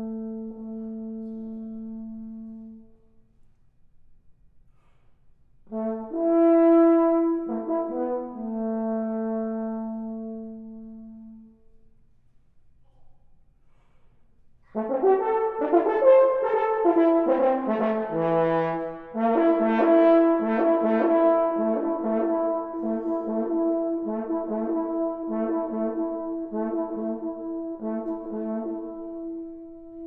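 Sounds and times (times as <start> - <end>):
french horn playing: 0.0 - 3.2, 5.6 - 11.8, 14.6 - 30.0.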